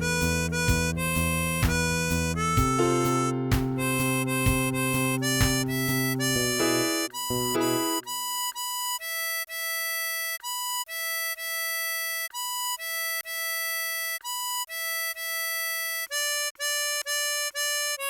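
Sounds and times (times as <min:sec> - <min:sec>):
tremolo harmonica melody: 0:00.0 - 0:18.0.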